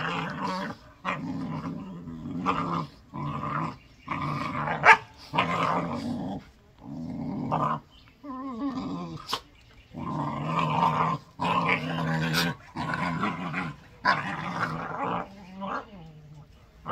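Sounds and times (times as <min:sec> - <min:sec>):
dogs play-growling: 0:00.0 - 0:16.9.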